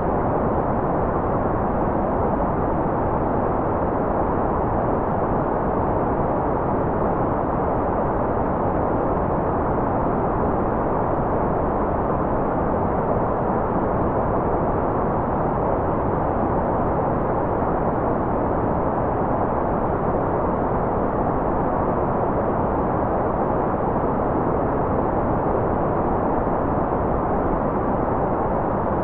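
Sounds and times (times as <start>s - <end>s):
soft white noise: 0.0s - 29.0s.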